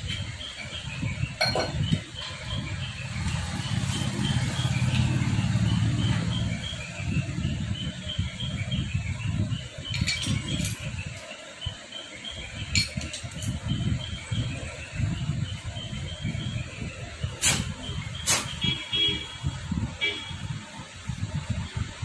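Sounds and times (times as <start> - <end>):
bird chirping: 0.0 - 19.4.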